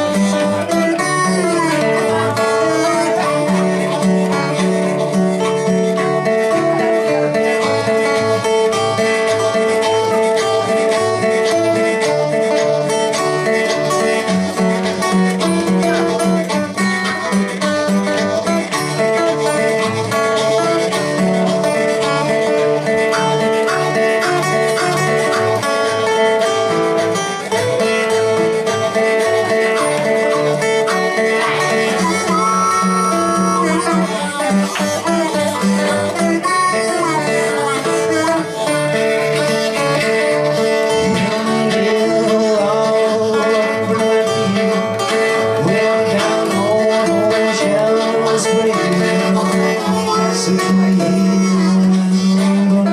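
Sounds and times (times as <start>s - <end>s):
blues band playing: 0.0s - 52.9s
harmonica: 0.0s - 52.9s.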